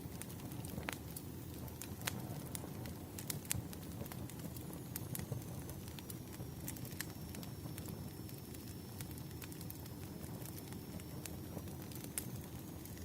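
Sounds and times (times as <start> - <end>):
campfire crackling and popping: 0.0 - 13.0
flame rumble: 0.0 - 13.0.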